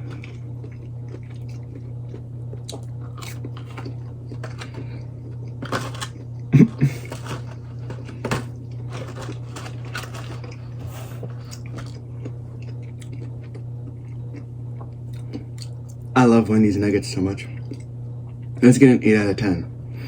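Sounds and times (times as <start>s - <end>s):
person crunching food: 0.0s - 16.1s
steady low hum: 0.0s - 20.0s.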